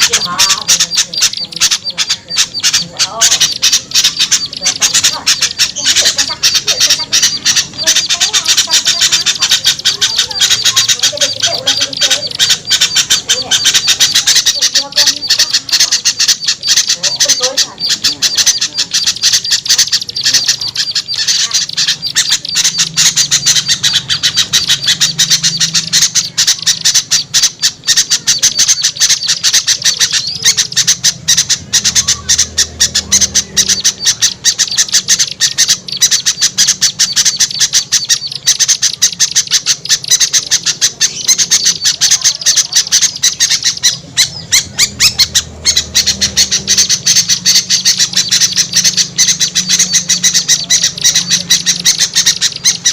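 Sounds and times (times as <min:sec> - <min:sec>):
small birds chattering and squawking: 0:00.0 - 0:52.9.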